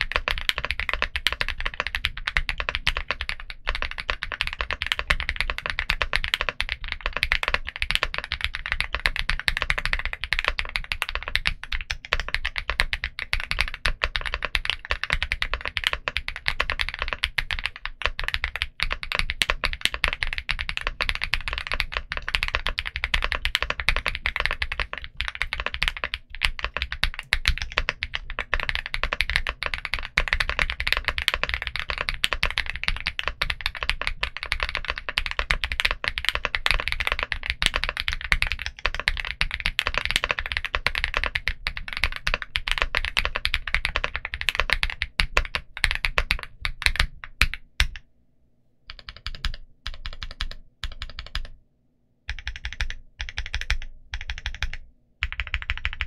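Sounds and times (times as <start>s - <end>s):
mechanical keyboard typing: 0.0s - 48.0s, 48.9s - 51.6s, 52.3s - 56.0s.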